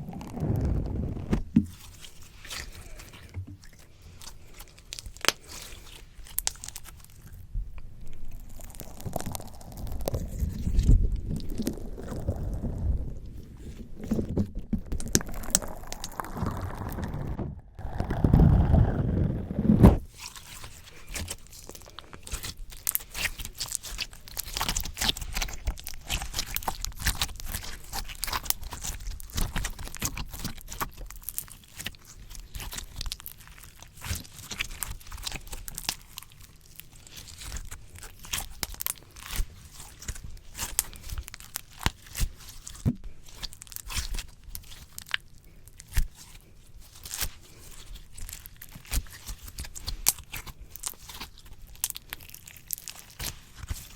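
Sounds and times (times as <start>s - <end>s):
slime squishing and crackling: 0.0s - 53.9s.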